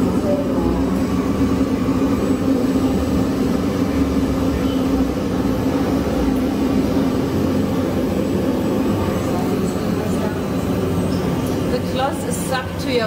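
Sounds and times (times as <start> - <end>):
electric air pump droning: 0.0 - 13.0.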